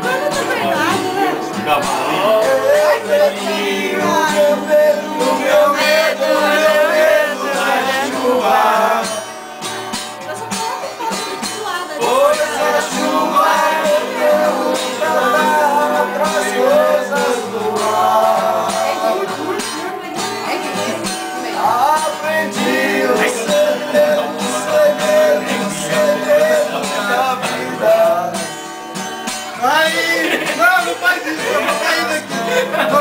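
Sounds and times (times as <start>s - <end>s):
men singing together: 0.0s - 9.6s, 11.7s - 28.8s, 29.6s - 33.0s
acoustic guitar: 0.0s - 33.0s.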